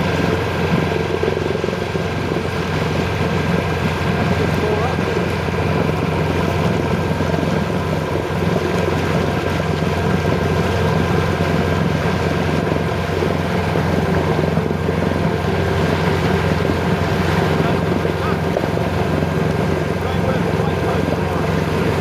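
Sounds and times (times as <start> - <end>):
boat engine drone: 0.0 - 22.0.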